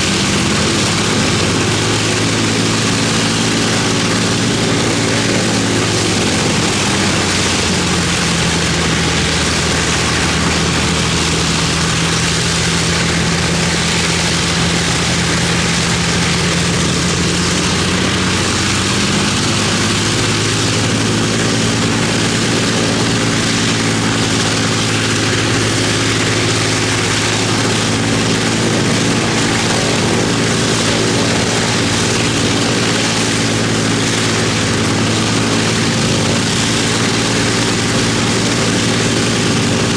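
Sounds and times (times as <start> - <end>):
aircraft propeller engines running: 0.0 - 39.9.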